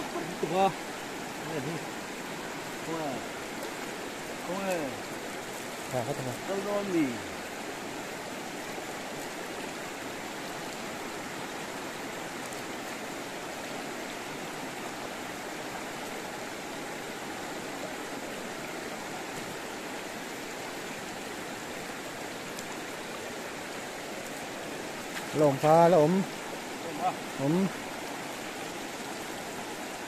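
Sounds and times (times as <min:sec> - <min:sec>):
river water rushing over stones: 0:00.0 - 0:30.0.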